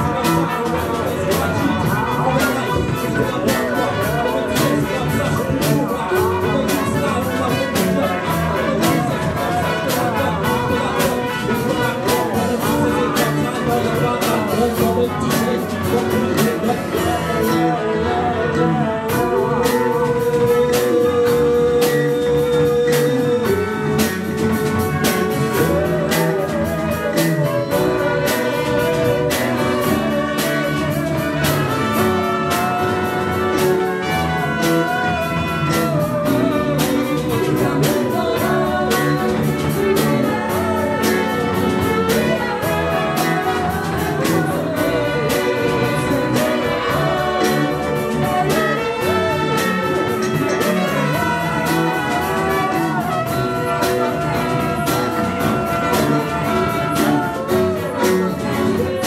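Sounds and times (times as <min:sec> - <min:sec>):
live band playing: 0:00.0 - 0:59.0
people singing into microphones: 0:00.0 - 0:59.0
trumpets: 0:00.0 - 0:59.0.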